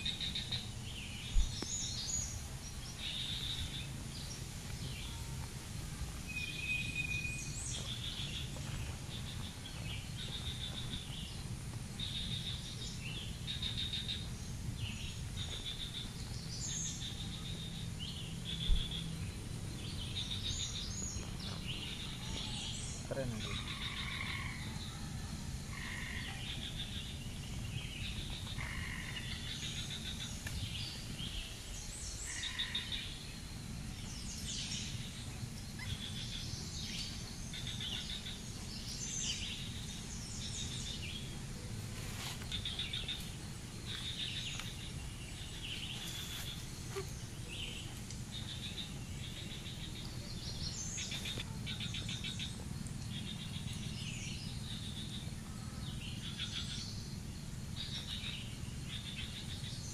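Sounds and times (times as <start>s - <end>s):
birds chirping: 0.0s - 59.9s
low background rumble: 0.0s - 59.9s.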